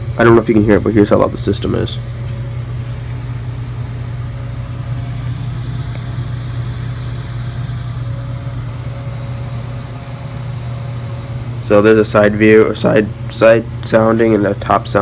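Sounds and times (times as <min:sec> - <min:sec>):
computer fans humming: 0:00.0 - 0:15.0
faint fan whine: 0:00.0 - 0:15.0.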